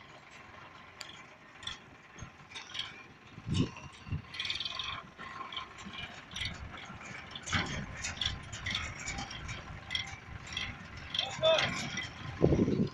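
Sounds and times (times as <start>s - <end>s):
tractor engine rumble: 0.0s - 12.9s
trailer ticking and rattling: 0.0s - 12.9s.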